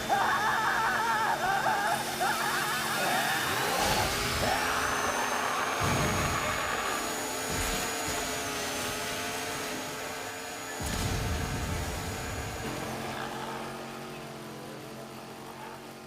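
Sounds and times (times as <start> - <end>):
chainsaw engine at high revs: 0.0 - 16.0.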